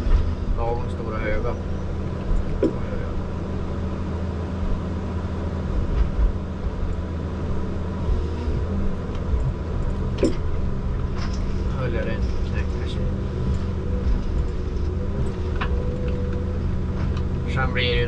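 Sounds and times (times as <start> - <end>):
low thuds: 0.0 - 4.9, 5.6 - 17.6
harvester engine and hydraulics: 0.0 - 18.0.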